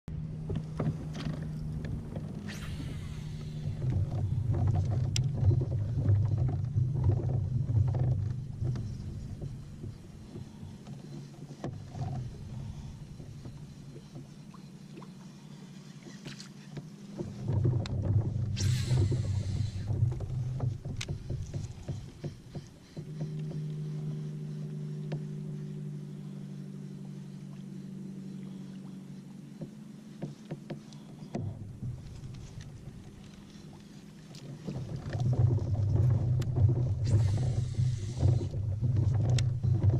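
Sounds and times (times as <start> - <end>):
low rumbling: 0.0 - 39.9
steady low hum: 0.1 - 39.9
fishing reel spool whirring: 0.3 - 39.9.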